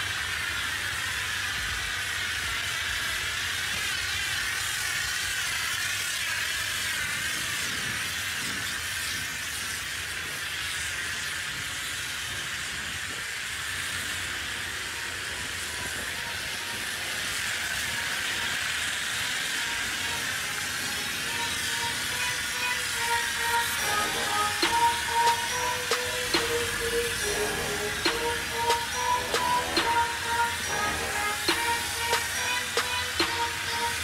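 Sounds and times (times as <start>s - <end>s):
pressure washer spraying metal: 0.0s - 34.0s.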